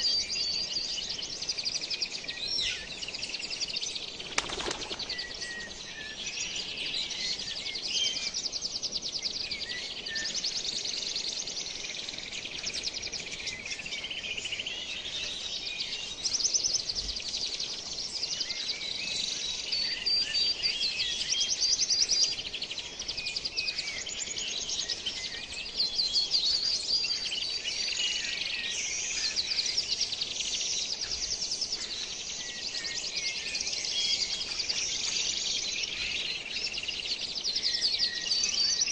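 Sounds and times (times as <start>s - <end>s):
birds chorus of trills and chirps: 0.0s - 38.9s.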